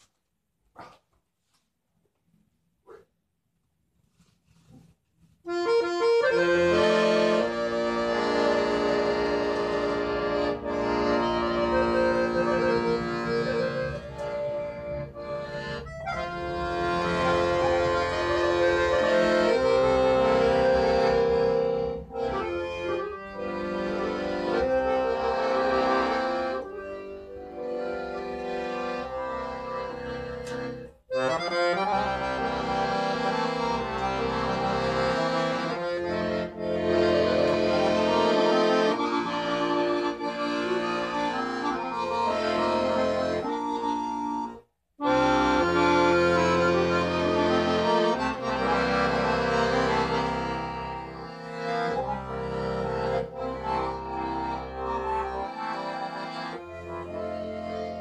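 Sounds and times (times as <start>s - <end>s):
piano accordion playing: 5.4s - 58.0s.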